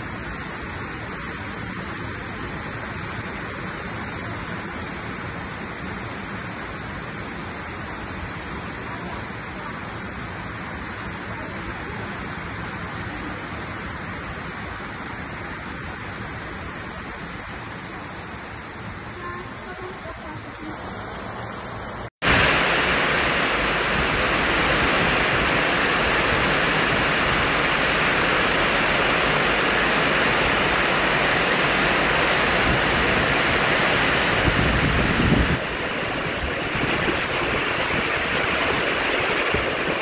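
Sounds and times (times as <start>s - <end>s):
heavy rain on metal roof: 0.0s - 40.0s.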